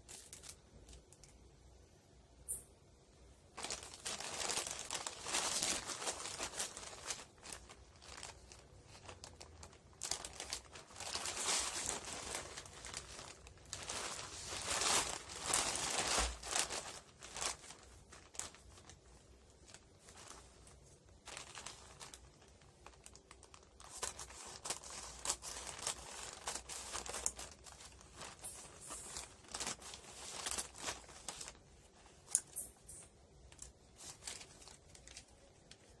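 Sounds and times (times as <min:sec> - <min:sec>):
plastic bag crinkling: 0:00.0 - 0:01.4, 0:03.5 - 0:36.0.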